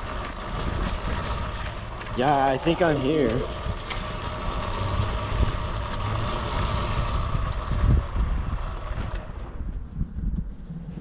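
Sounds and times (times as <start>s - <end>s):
dirt bike engine running: 0.0s - 11.0s
wind buffeting microphone: 0.0s - 11.0s.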